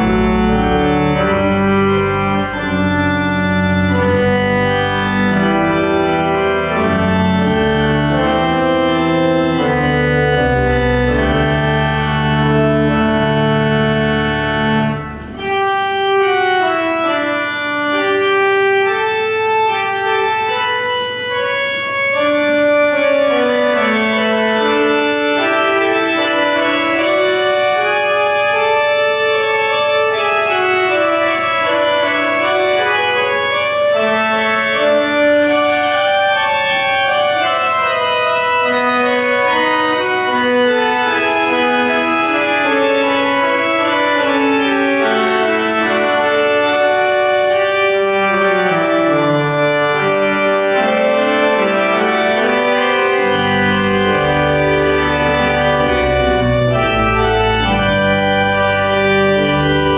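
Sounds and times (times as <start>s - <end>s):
organ playing chords: 0.0s - 59.9s.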